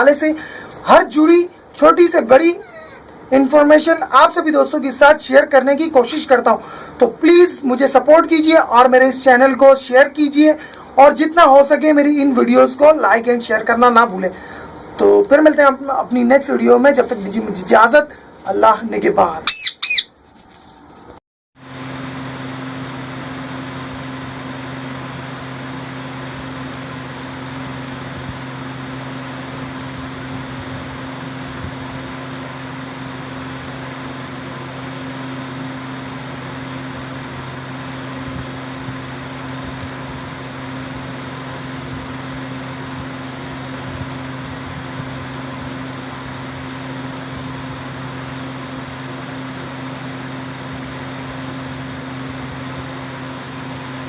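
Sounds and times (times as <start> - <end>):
steady mechanical hum and hiss: 0.0 - 54.0.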